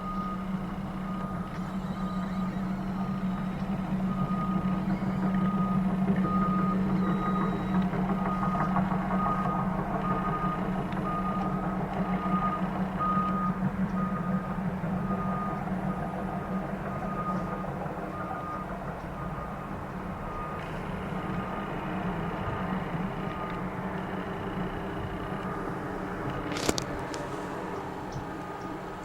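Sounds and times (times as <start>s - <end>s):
backup alarm beeping: 0.0s - 25.9s
diesel engine drone: 0.0s - 29.0s.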